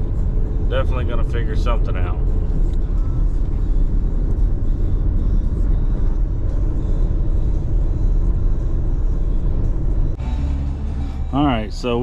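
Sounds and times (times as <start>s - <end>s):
road and engine rumble in cabin: 0.0s - 12.0s.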